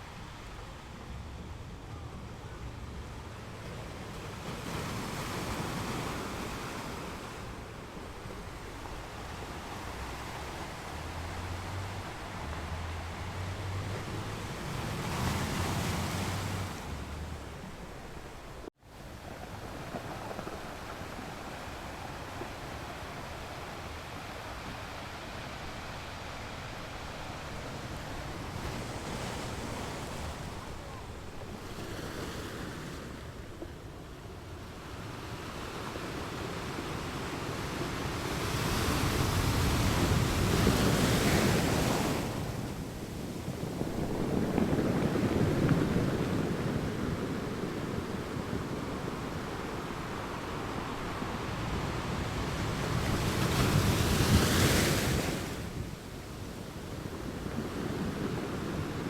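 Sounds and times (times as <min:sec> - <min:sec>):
ocean waves breaking on beach: 0:00.0 - 0:59.0
surf surging: 0:00.0 - 0:59.0.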